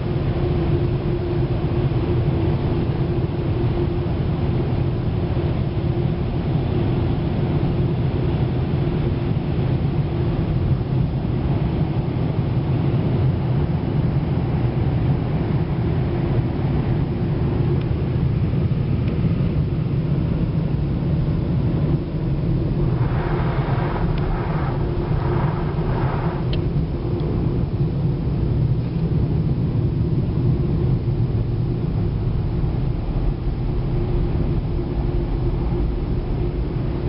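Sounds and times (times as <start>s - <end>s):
even hum: 0.0s - 37.0s
low rumble inside car: 0.0s - 37.0s.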